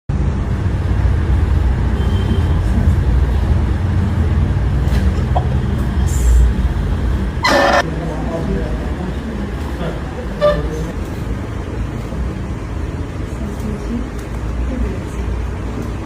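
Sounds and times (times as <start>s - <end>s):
road traffic rumble: 0.1s - 16.0s.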